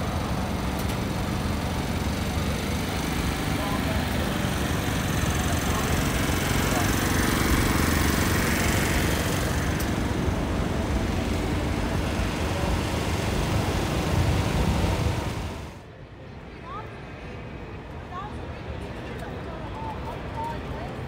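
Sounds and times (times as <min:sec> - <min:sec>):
traffic hum: 0:00.0 - 0:21.0.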